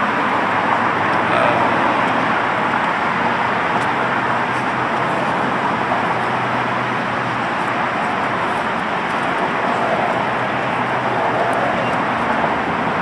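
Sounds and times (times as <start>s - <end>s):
cars passing: 0.0s - 13.0s
low engine hum: 0.0s - 13.0s.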